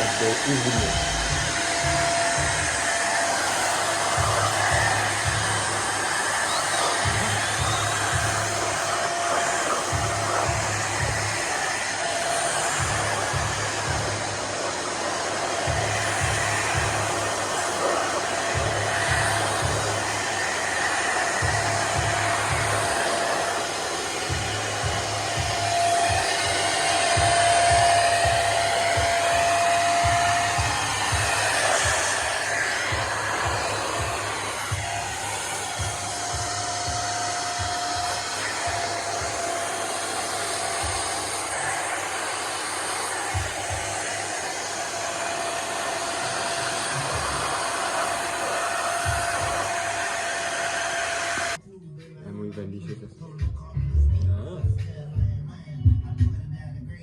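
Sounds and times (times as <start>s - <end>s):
rushing air: 0.0s - 51.6s
vacuum cleaner motor whine: 0.0s - 51.6s.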